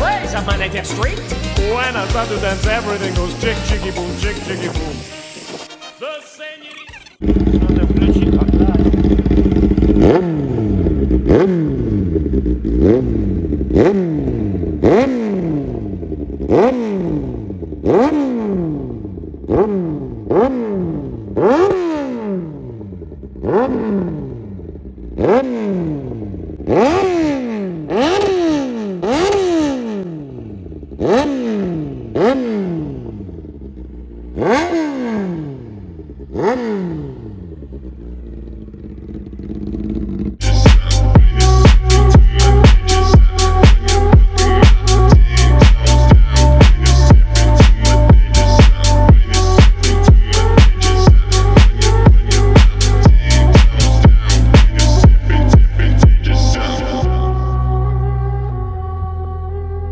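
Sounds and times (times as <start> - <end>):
motorcycle engine revving: 0.0 - 5.5, 7.2 - 59.9.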